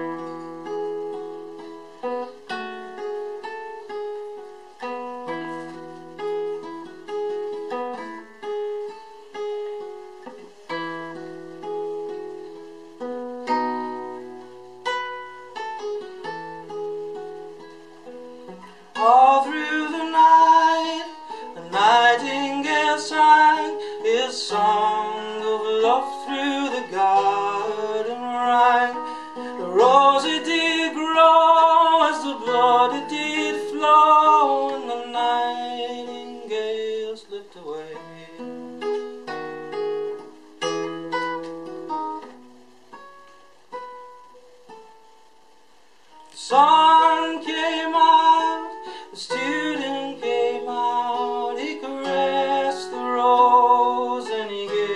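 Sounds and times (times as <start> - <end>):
man singing folk song: 0.0 - 41.4, 46.2 - 54.9
classical guitar picking: 0.0 - 54.9.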